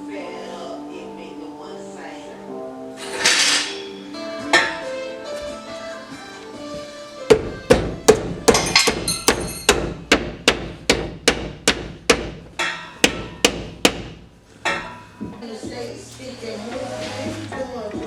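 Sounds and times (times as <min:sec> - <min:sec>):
background music: 0:00.0 - 0:10.6, 0:12.1 - 0:18.0.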